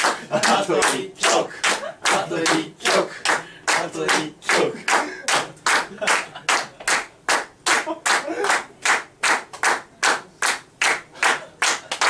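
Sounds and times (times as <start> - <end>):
rhythmic hand clapping: 0.0 - 12.0.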